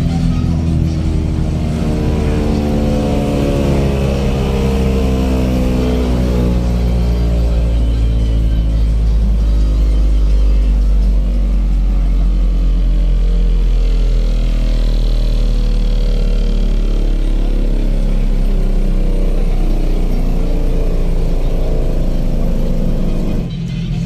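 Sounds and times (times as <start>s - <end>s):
loud deep subwoofer bass: 0.0s - 23.5s.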